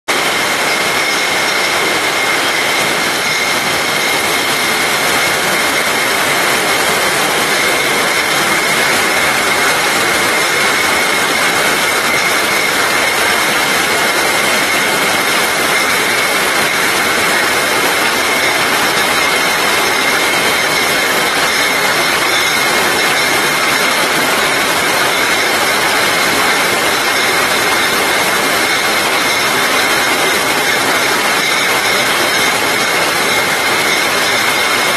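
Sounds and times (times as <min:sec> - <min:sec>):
bottling line running: 0:00.1 - 0:34.9
glass bottles on conveyors: 0:00.1 - 0:34.9.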